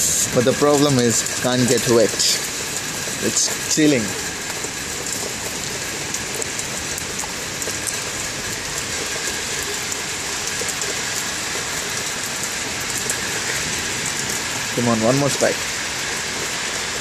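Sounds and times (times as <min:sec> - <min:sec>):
heavy rain hiss: 0:00.0 - 0:17.0
raindrops ticking: 0:00.0 - 0:17.0.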